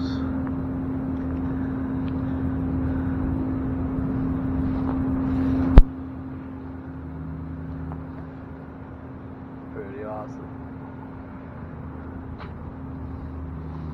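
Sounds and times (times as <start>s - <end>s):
vehicle engine rumble: 0.0s - 13.9s.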